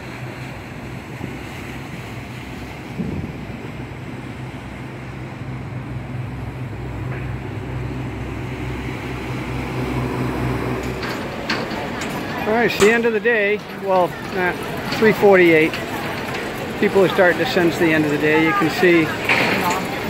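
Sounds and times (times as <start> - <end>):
boat engine humming: 0.0 - 20.0
rush of wind and water: 0.0 - 20.0.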